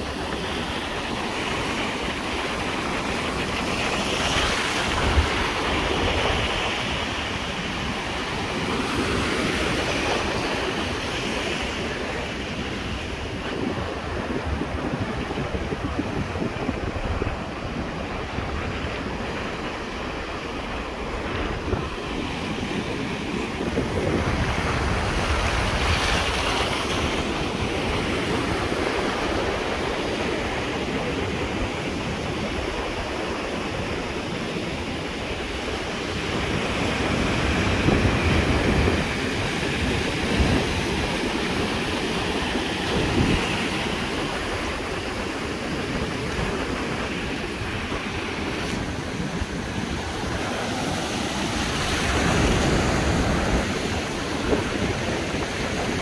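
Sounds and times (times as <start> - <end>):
surf breaking on beach: 0.0 - 56.0
wind on microphone: 0.0 - 56.0.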